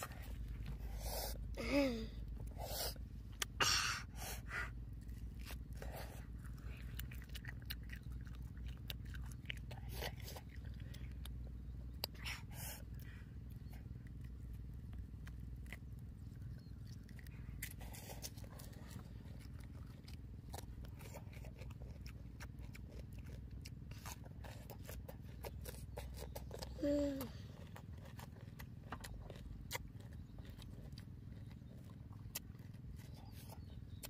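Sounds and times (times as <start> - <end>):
steady low hum: 0.0 - 34.0
person chewing food: 2.2 - 34.0.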